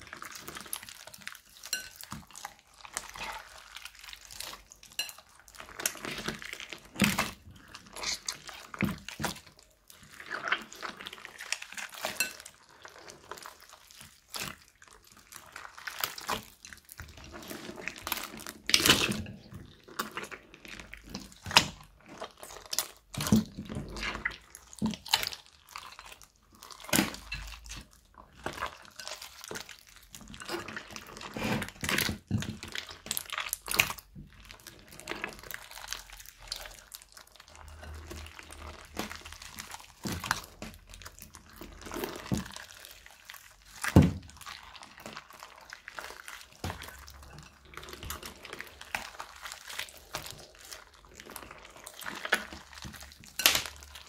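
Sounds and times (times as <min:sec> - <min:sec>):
slime squelching: 0:00.0 - 0:54.0.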